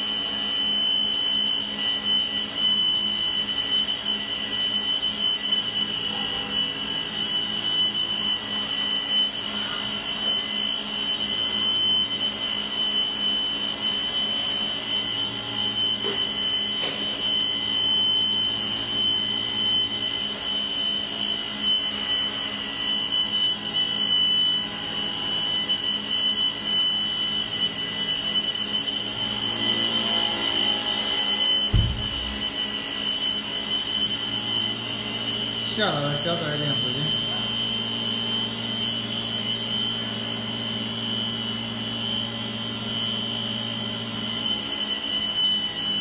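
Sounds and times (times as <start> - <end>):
motor whining and humming: 0.0 - 46.0.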